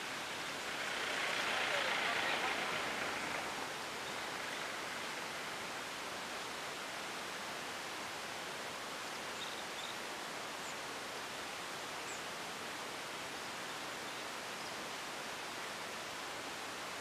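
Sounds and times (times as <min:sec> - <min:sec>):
open-air background hiss: 0:00.0 - 0:17.0.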